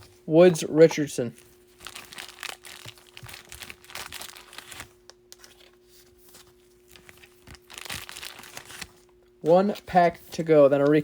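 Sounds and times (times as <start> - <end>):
faint steady hum: 0.0 - 11.0
card wrappers crinkling: 0.9 - 11.0.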